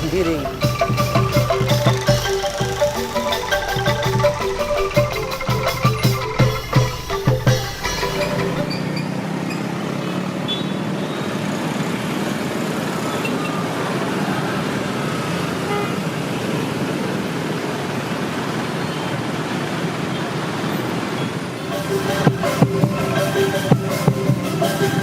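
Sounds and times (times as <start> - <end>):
busy road traffic: 0.0 - 25.0.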